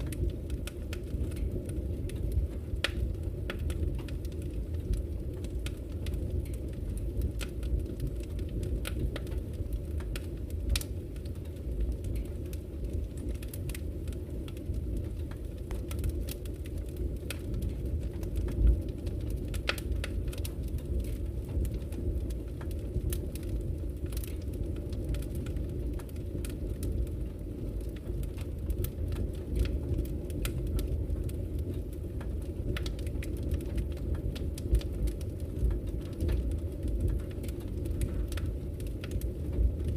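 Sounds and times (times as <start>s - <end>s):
fire rumbling in fireplace: 0.0s - 39.9s
wood crackling and popping: 0.0s - 39.9s.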